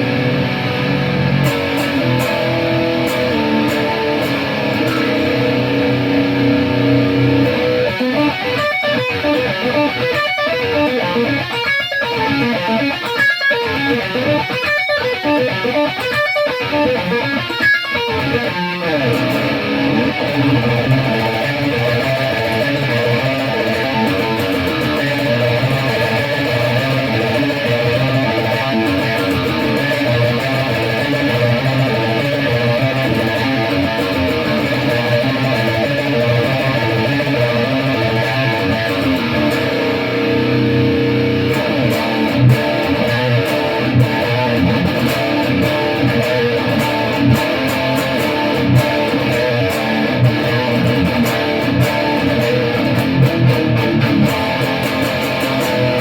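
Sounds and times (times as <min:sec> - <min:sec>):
electric guitar riffing: 0:00.0 - 0:56.0.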